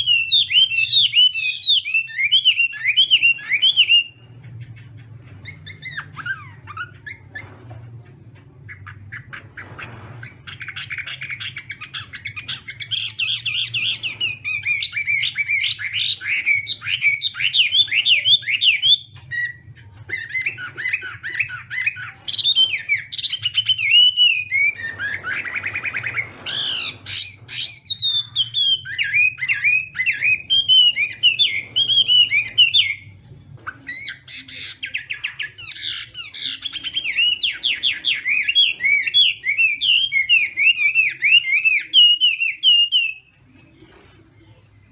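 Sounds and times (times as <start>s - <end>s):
songbird singing whistled notes: 0.0s - 4.5s, 10.6s - 43.4s
low steady hum: 2.0s - 40.6s.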